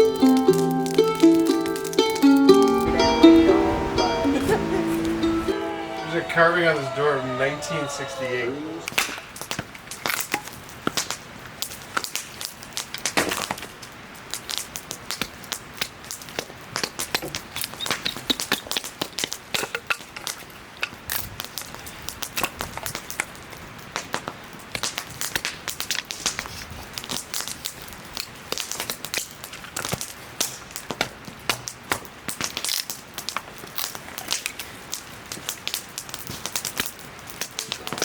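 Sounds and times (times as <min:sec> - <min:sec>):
wood fire crackling and popping: 0:00.0 - 0:02.9, 0:09.0 - 0:38.0.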